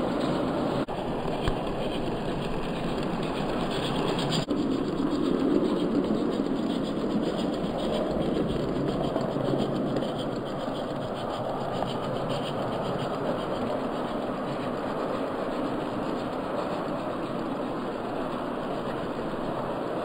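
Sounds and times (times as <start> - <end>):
model steam locomotive chuffing: 0.0 - 20.0
wheels rumbling on rails: 0.0 - 20.0.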